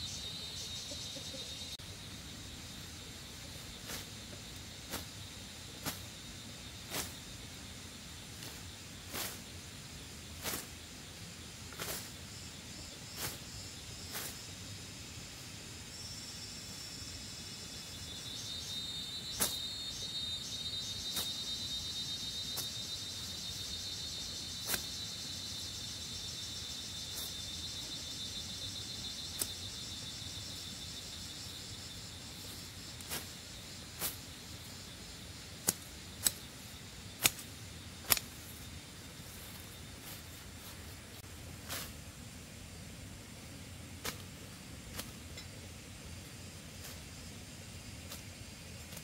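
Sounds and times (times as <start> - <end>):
insects buzzing trill: 0.0 - 49.0.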